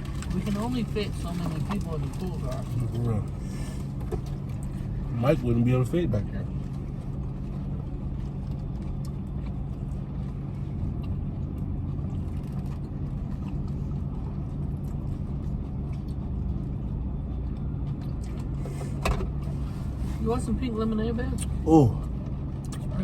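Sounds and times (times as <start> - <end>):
car engine hum from inside: 0.0 - 23.0.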